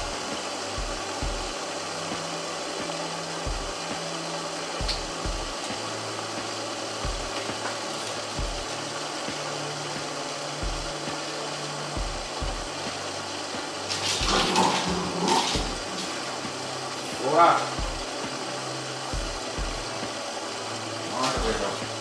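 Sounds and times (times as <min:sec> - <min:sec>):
stove burner hissing: 0:00.0 - 0:22.0.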